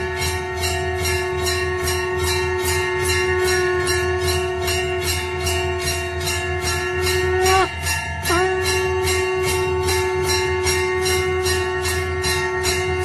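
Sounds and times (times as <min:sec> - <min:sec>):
bells jingling: 0:00.0 - 0:13.0
long steady held tone: 0:00.0 - 0:13.0.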